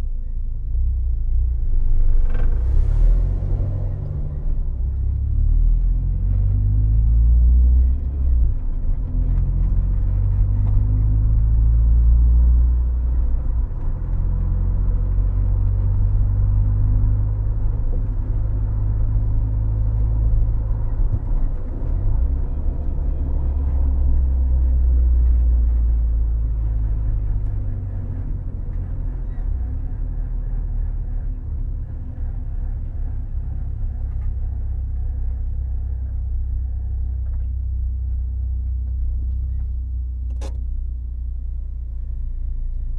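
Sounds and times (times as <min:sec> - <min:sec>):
car engine running: 0:00.0 - 0:42.9
road rumble: 0:00.0 - 0:42.9.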